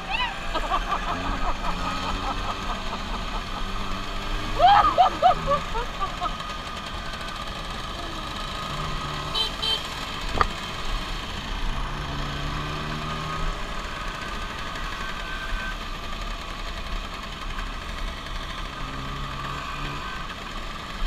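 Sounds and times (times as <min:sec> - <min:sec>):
scooter engines buzzing: 0:00.0 - 0:21.0.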